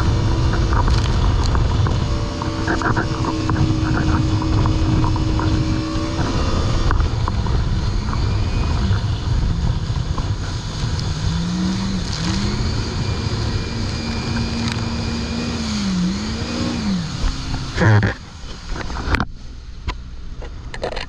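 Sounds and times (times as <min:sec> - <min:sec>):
personal watercraft engine droning: 0:00.0 - 0:21.0
water spray rushing against hull: 0:00.0 - 0:21.0.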